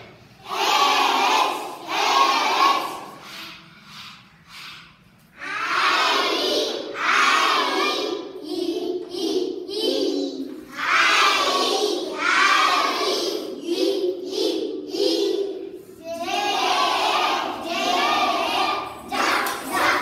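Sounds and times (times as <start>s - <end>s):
children chanting in unison: 0.0s - 20.0s.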